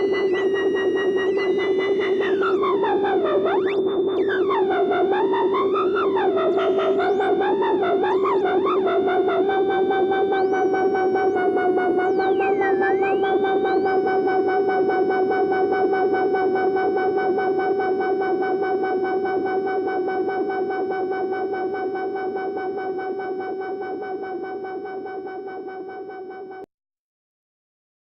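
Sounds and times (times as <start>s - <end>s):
filter sweep: 0.0s - 23.2s
steady synthesizer drone: 0.0s - 26.5s.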